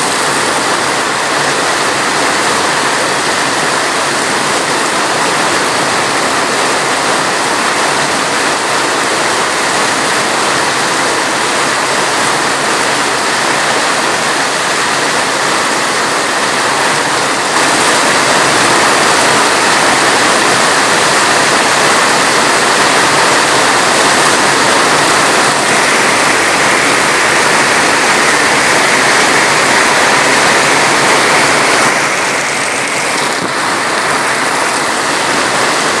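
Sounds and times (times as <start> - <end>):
steady rainfall: 0.0 - 36.0.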